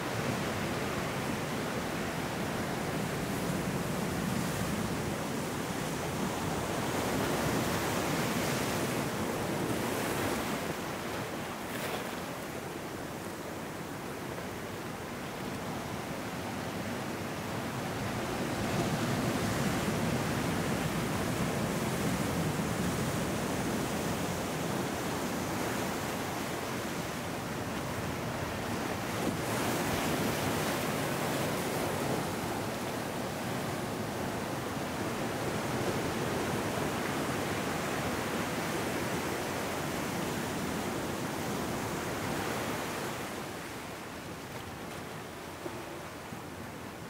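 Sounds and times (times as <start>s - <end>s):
ocean surf on rocks and sand: 0.0s - 47.0s.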